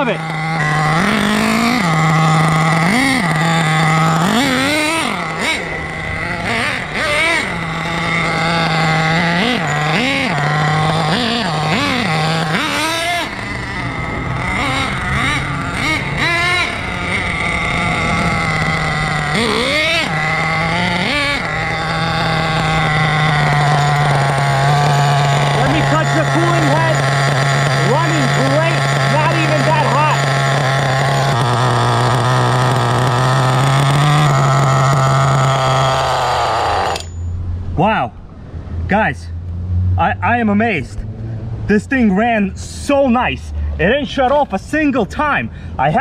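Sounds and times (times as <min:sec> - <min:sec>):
small nitro engine idling and revving: 0:00.0 - 0:37.4.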